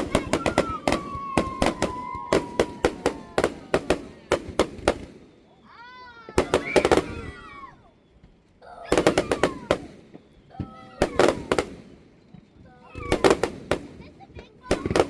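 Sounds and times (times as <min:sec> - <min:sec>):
firecrackers popping: 0:00.0 - 0:15.0.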